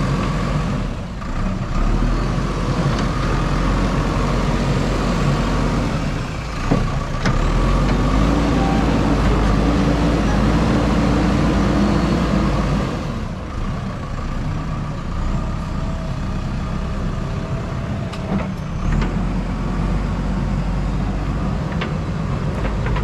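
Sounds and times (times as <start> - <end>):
diesel engine working: 0.0 - 23.0.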